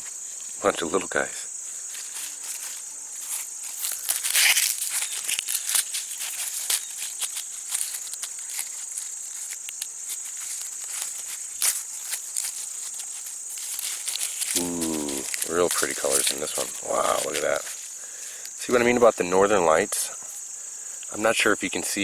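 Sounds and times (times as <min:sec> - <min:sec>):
corn husks rustling and tearing: 0:00.0 - 0:22.0
insects chorus: 0:00.0 - 0:22.0.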